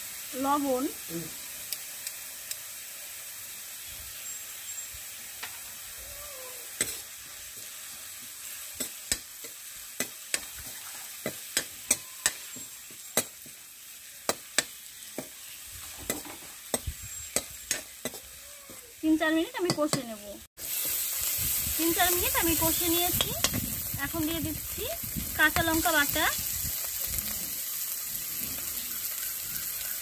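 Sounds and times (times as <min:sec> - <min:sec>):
paste sizzling in hot oil: 0:00.0 - 0:30.0.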